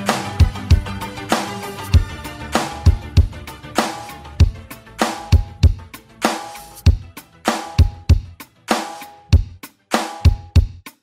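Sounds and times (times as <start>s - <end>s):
synth-pop music: 0.0s - 10.8s.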